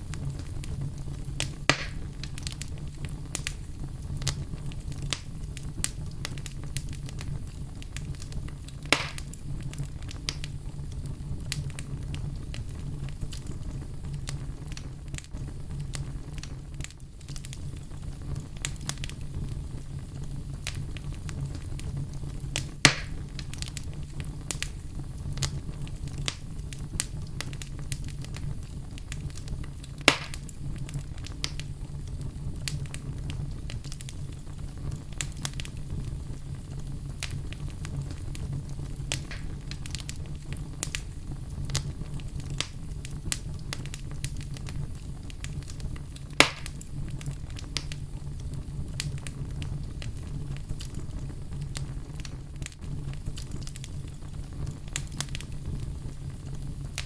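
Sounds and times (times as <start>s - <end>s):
fire crackles and pops: 0.0s - 57.0s
low rumble of fire flames: 0.0s - 57.0s.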